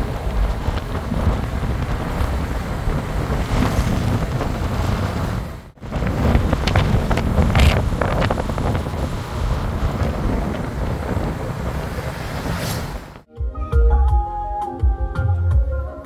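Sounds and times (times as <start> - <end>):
train rumbling: 0.0 - 13.3
wind buffeting microphone: 0.0 - 13.3.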